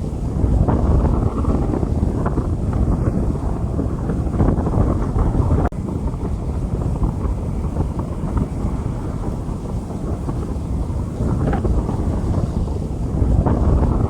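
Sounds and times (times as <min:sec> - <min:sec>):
heavy low rumble: 0:00.0 - 0:14.0.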